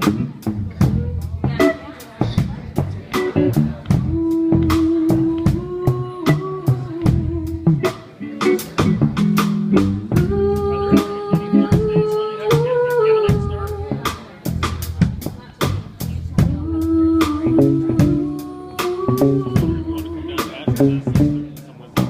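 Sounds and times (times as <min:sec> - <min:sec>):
drum kit beat: 0:00.0 - 0:22.0
live band playing: 0:00.0 - 0:22.0.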